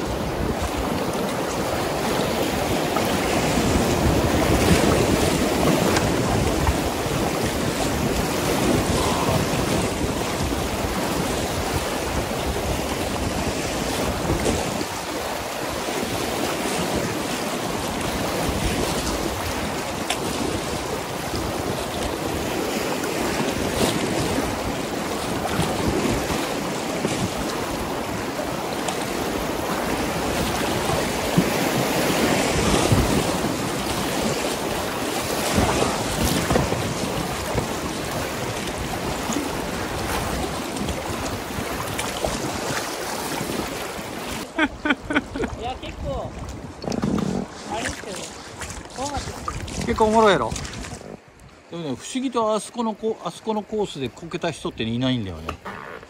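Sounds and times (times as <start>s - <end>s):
river rapids rushing: 0.0s - 46.4s
wind on microphone: 0.0s - 51.7s.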